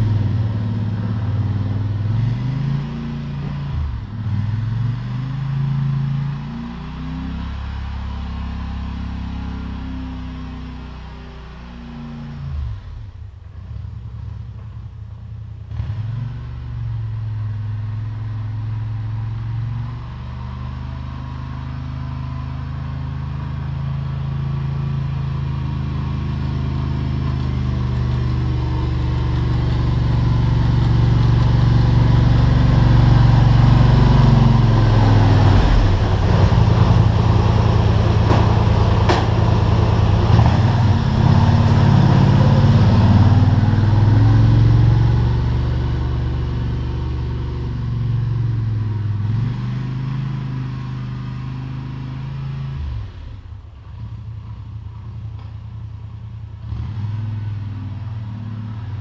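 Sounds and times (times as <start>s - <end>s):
quad engine plowing snow: 0.0s - 12.9s, 15.7s - 59.0s.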